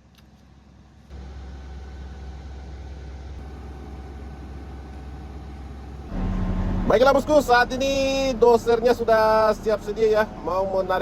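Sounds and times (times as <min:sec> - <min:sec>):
diesel engine idling: 0:00.7 - 0:11.0.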